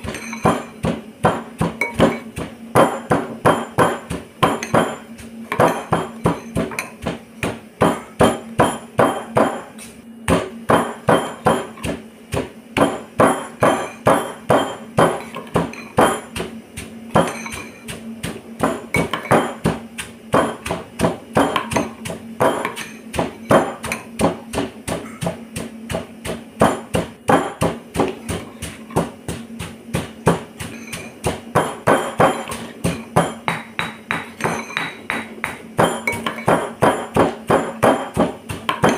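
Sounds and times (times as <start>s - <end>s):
stone pestle pounding in mortar: 0.0s - 38.9s.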